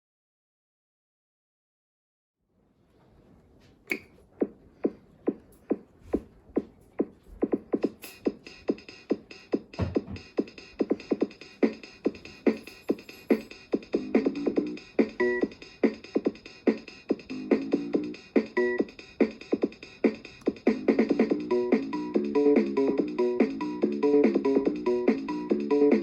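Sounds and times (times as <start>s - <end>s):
drum machine beat: 4.4s - 26.0s.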